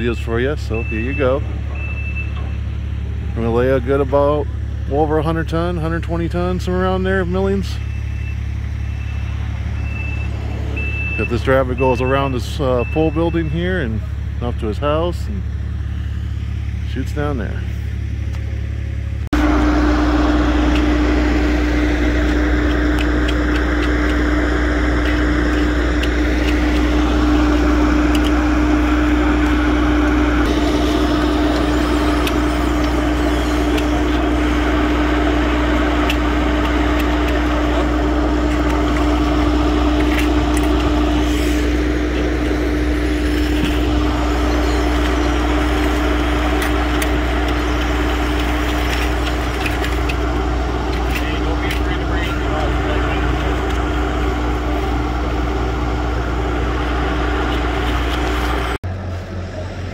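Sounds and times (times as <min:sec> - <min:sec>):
heavy diesel machine rumbling: 0:00.0 - 0:59.9
steady machine whine: 0:00.0 - 0:59.9.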